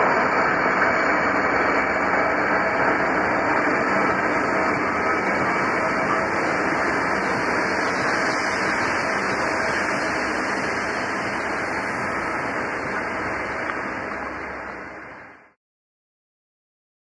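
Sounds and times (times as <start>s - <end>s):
freight train wagons rolling past: 0.1s - 15.2s.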